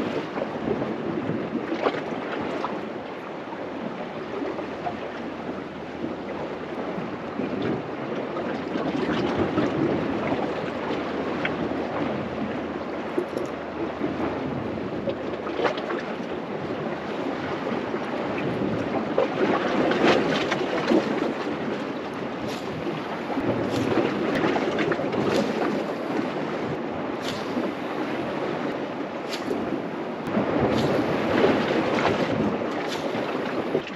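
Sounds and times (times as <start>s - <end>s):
sea washing against rocks: 0.0s - 33.9s
water splashes: 0.0s - 33.9s
wind buffeting microphone: 0.0s - 33.9s.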